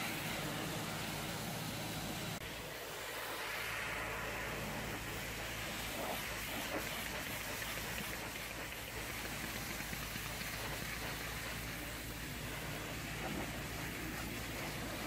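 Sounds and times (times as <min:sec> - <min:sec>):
water jet spraying on metal: 0:00.0 - 0:15.0.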